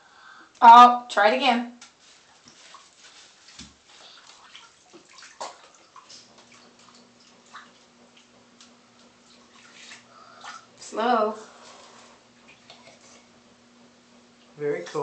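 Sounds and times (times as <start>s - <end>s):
faint steady hum: 0.0s - 15.0s
bathwater splashing: 1.8s - 15.0s.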